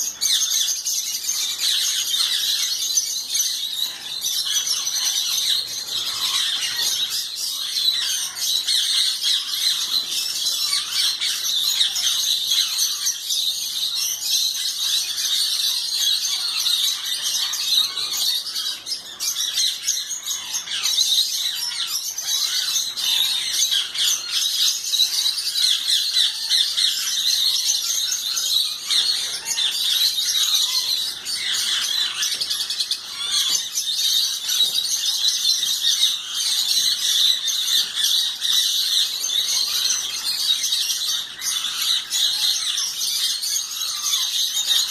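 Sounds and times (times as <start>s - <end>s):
parrots squawking and chirping: 0.0s - 44.9s.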